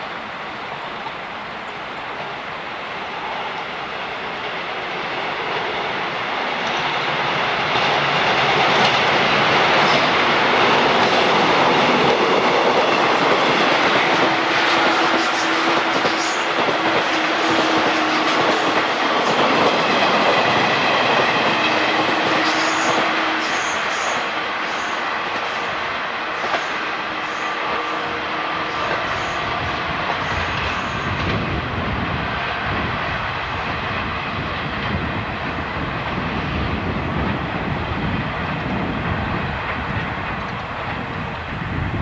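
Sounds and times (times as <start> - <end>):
train wheels rolling over track: 0.7 - 42.0.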